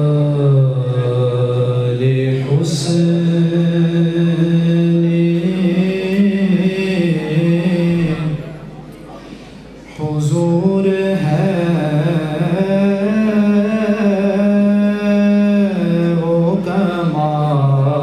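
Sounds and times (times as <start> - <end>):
man chanting unaccompanied: 0.0 - 8.8, 9.9 - 18.0.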